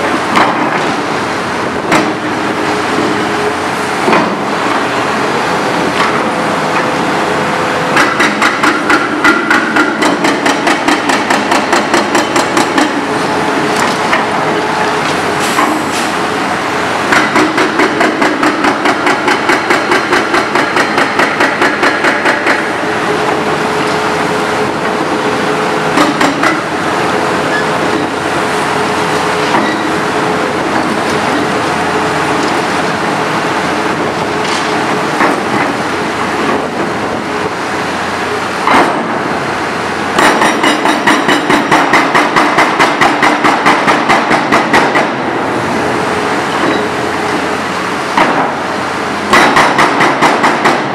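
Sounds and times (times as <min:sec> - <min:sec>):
hydraulic hammer pounding: 0:00.0 - 0:37.7, 0:38.3 - 0:50.9
excavator engine running: 0:00.0 - 0:50.9.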